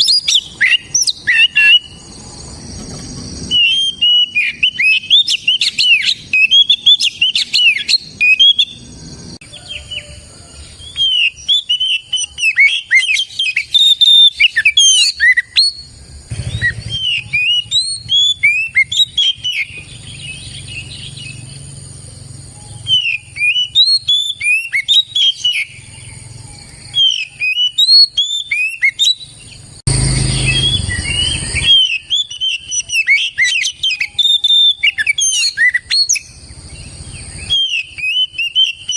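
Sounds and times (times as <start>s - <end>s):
bird singing chirps and whistles: 0.0s - 38.9s.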